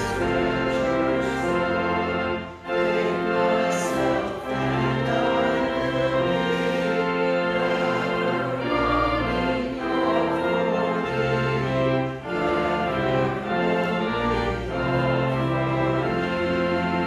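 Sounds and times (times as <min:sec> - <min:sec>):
church organ hymn chords: 0:00.0 - 0:17.0.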